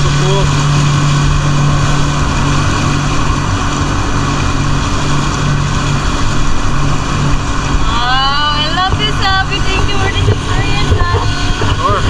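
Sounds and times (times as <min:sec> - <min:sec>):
jet ski engine humming: 0:00.0 - 0:12.0
water rushing: 0:00.0 - 0:12.0.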